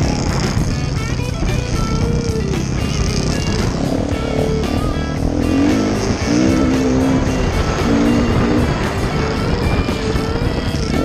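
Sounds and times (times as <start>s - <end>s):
dirt bike engine revving: 0.0s - 11.0s
music with guitar and beat: 0.0s - 11.0s.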